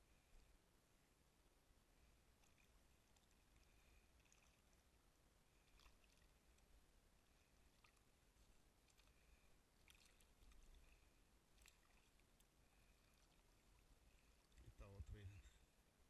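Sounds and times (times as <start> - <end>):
faint water lapping: 1.8 - 15.8.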